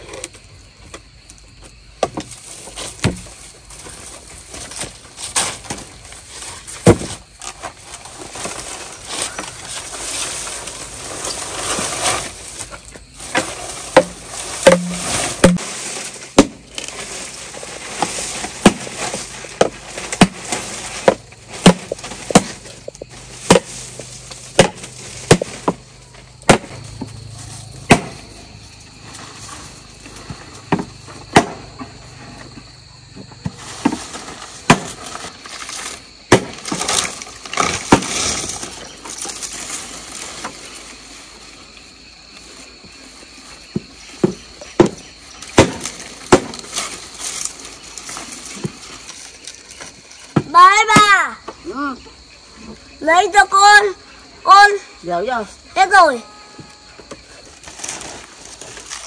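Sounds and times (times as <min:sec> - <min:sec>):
noisy rustle: 0:02.3 - 0:31.3, 0:33.5 - 0:50.4, 0:57.3 - 0:59.0.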